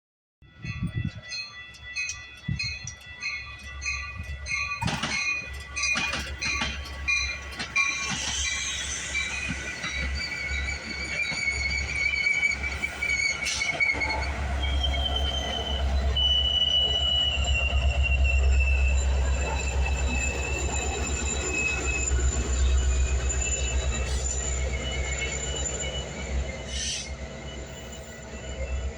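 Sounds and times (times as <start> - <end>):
train bell ringing: 0.4 - 28.9
low train rumble: 0.5 - 28.9
faint wavering squeal: 5.2 - 28.9.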